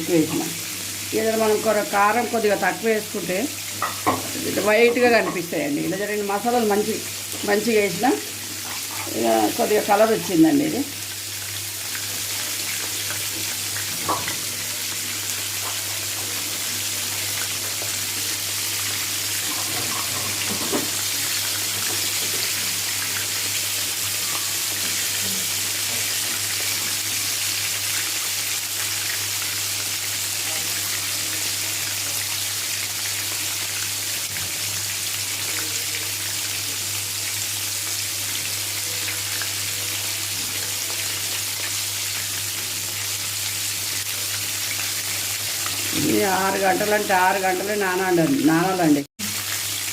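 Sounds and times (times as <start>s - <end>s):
chicken deep-frying in oil: 0.0s - 49.9s.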